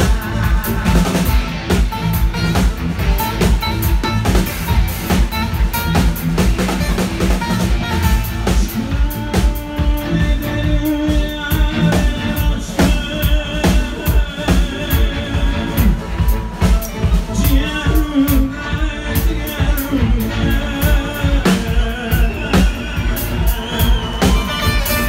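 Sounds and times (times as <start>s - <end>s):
drum kit beat: 0.0s - 25.0s.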